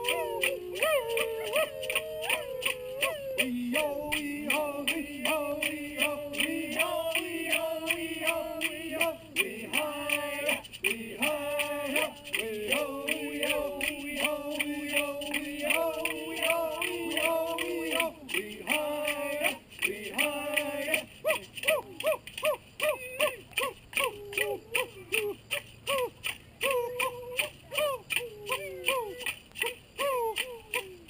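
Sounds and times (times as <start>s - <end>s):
person chanting song: 0.0s - 31.0s.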